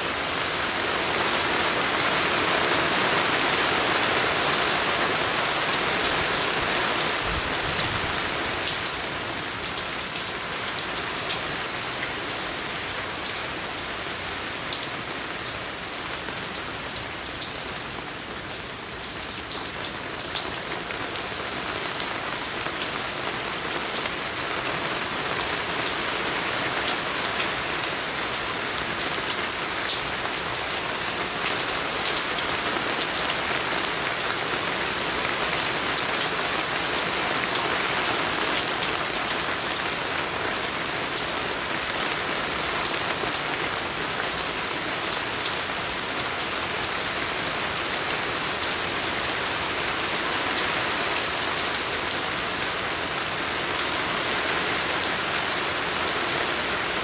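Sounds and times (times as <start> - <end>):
steady rain on water and trees: 0.0 - 57.0.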